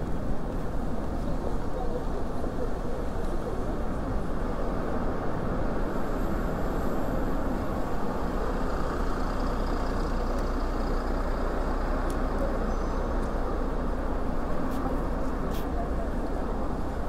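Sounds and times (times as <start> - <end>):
street traffic rushing: 0.0 - 17.0.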